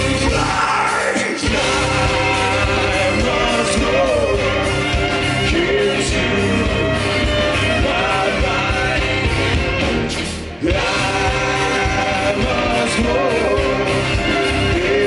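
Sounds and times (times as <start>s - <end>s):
lead vocal singing: 0.0s - 15.0s
live rock band playing: 0.0s - 15.0s.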